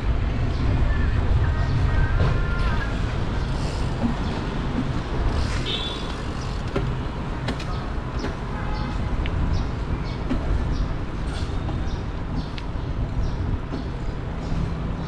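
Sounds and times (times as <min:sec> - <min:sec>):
road traffic noise: 0:00.0 - 0:15.0
wind rumble on microphone: 0:00.0 - 0:15.0.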